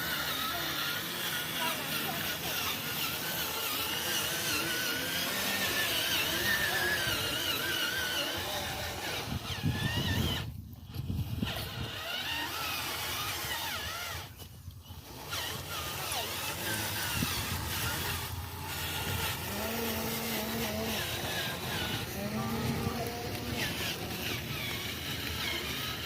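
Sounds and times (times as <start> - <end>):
small model motors whining: 0.0 - 26.0
steady low hum: 0.0 - 26.0.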